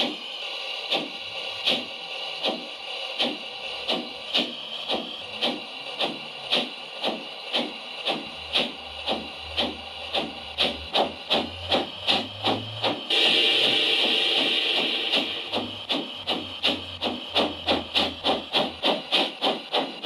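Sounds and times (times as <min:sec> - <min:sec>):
model locomotive steam chuffs: 0:00.0 - 0:20.0.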